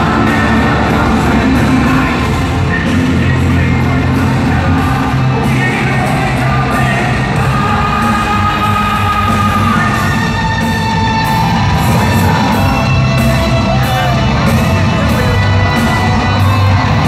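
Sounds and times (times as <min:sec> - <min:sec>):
hard rock band playing: 0:00.0 - 0:17.0
person singing: 0:00.0 - 0:17.0.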